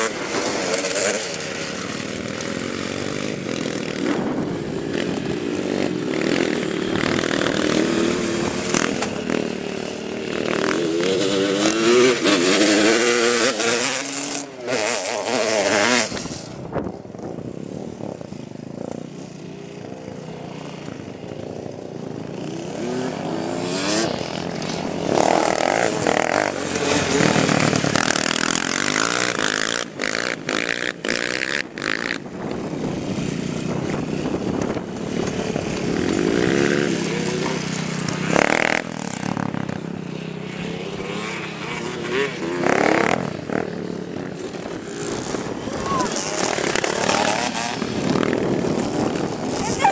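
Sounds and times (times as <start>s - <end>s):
small engine revving: 0.0s - 16.7s, 22.3s - 49.9s.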